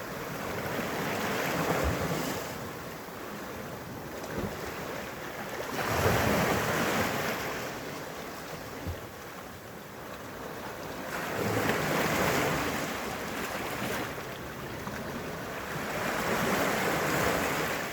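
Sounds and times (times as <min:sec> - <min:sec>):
waves washing onto rocky shore: 0:00.1 - 0:17.9.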